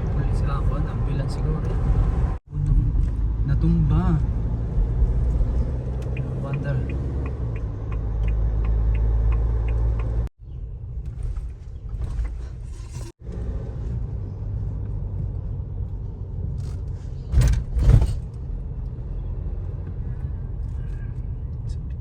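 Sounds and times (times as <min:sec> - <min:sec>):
car rumbling heard from inside: 0:00.0 - 0:22.0.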